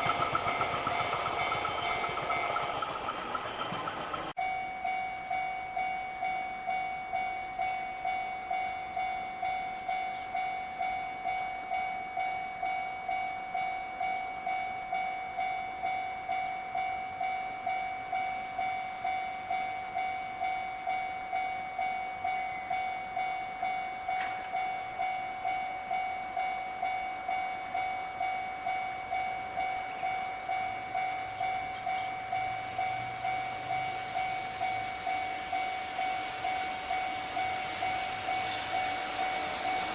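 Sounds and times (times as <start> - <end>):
approaching train rumble: 0.0 - 39.9
level-crossing warning bell ringing: 0.0 - 39.9.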